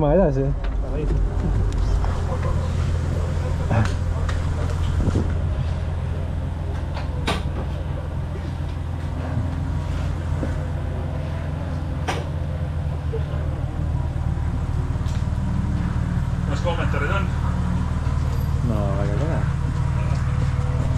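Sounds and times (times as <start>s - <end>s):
race car engine running low revs: 0.0s - 20.9s.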